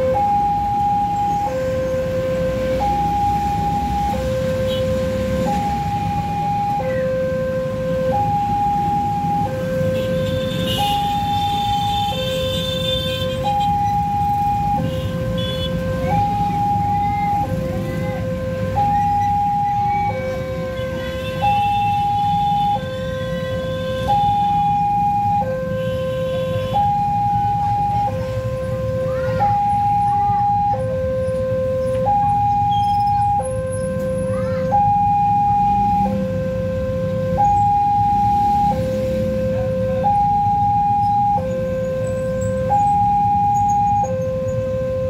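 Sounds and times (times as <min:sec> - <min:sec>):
motorcycle and car traffic: 0:00.0 - 0:45.0
two-tone level-crossing alarm: 0:00.0 - 0:45.0.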